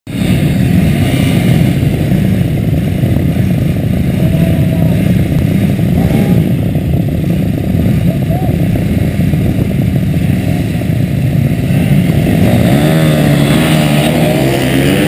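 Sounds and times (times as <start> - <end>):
motorcycle engines droning: 0.1 - 15.0.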